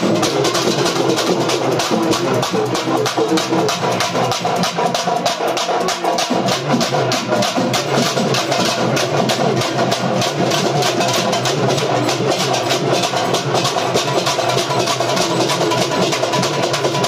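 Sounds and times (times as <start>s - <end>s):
drum drone: 0.0s - 17.0s
drum ensemble fast beat: 0.0s - 17.0s.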